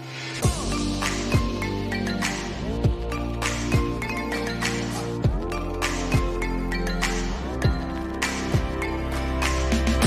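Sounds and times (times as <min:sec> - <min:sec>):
music with sustained tones: 0:00.0 - 0:10.0.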